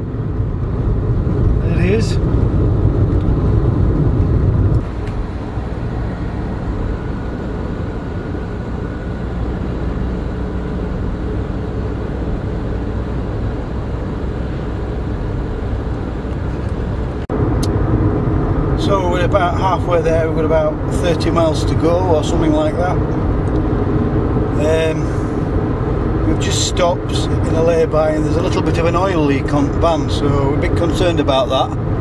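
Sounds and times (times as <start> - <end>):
engine and road drone: 0.0 - 32.0.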